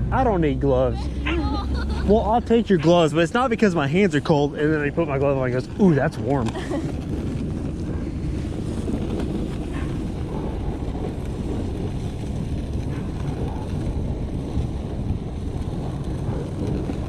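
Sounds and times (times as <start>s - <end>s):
sled rumbling over snow: 0.0s - 17.0s
wind buffeting microphone: 0.0s - 17.0s.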